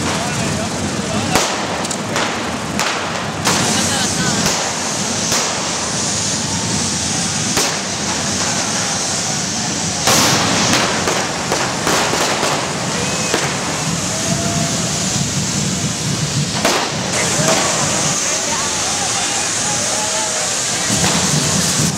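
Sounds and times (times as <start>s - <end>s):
firecracker bangs: 0.0s - 21.9s
fireworks hissing: 0.0s - 21.9s.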